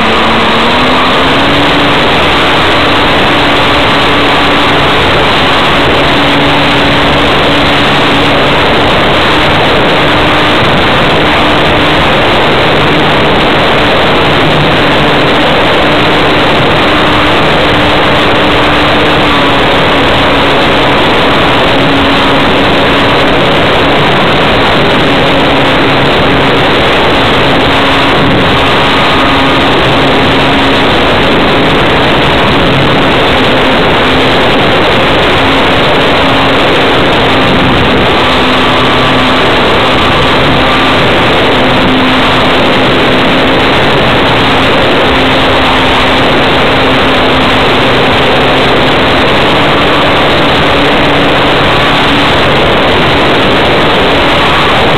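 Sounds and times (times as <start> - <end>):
model plane motor droning: 0.0 - 54.9
wind rush: 0.0 - 54.9.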